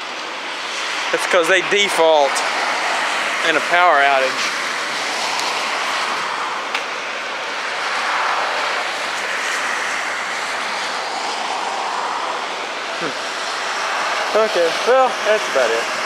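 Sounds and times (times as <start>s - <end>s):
road traffic noise: 0.0s - 16.0s
vehicle passing: 0.9s - 16.0s.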